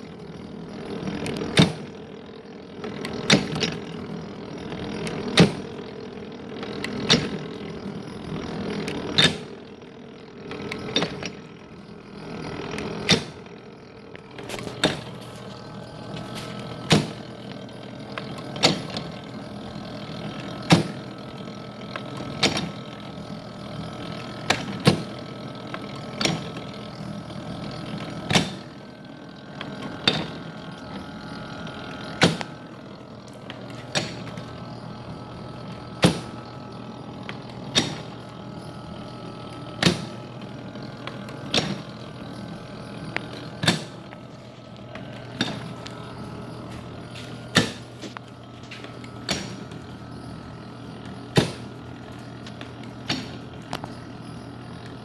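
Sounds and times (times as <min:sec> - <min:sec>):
planer hum: 0:00.0 - 0:55.0.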